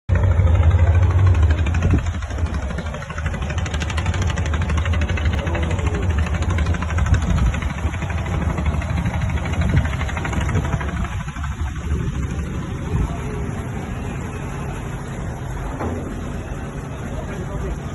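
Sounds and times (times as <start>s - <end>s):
engine running with throb: 0.1s - 17.9s.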